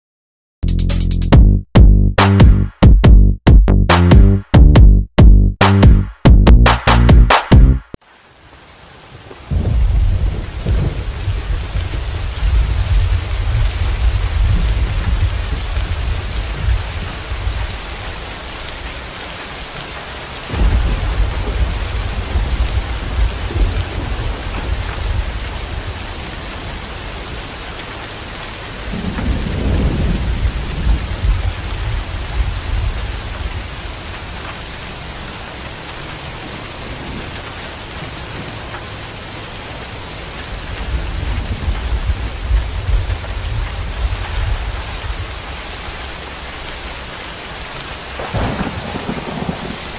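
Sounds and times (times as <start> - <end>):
rain on wet pavement: 8.0 - 49.9.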